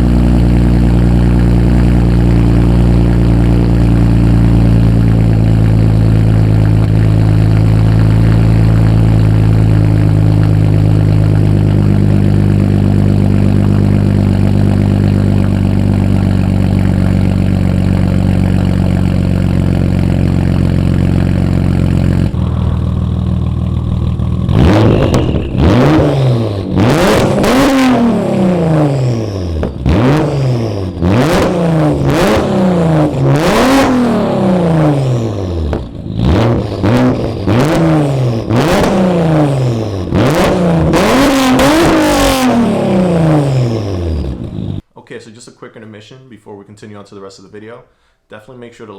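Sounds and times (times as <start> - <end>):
car engine idling and revving: 0.0 - 44.8.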